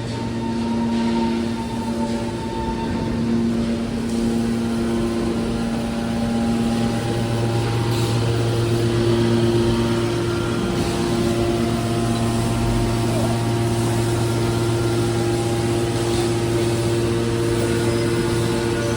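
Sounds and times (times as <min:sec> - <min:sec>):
baler machine hum: 0:00.0 - 0:18.9.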